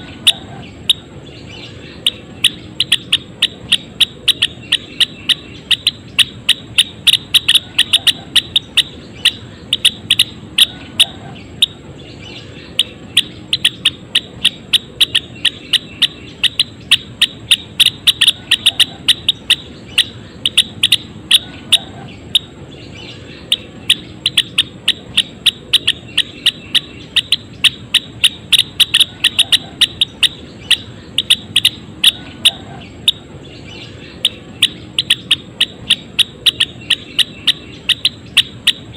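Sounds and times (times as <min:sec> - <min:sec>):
sparrow clicking chip notes: 0:02.0 - 0:11.8, 0:12.7 - 0:22.6, 0:23.4 - 0:33.3, 0:34.2 - 0:38.9.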